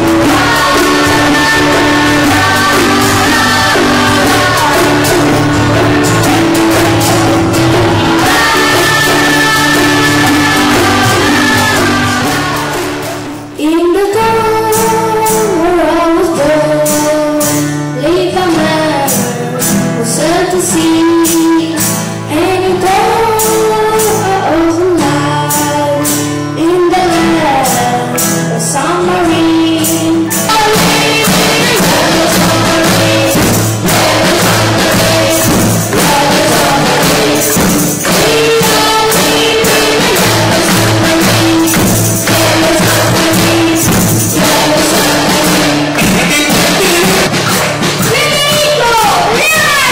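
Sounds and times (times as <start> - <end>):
children singing: 0.0 - 26.0, 26.6 - 49.9
percussion beat: 0.0 - 26.2, 29.0 - 49.9
acoustic guitars: 0.0 - 49.9
keyboards: 0.0 - 49.9.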